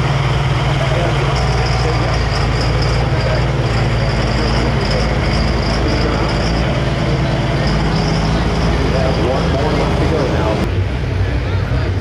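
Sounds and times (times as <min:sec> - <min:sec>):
big diesel engine rumbling: 0:00.0 - 0:12.0.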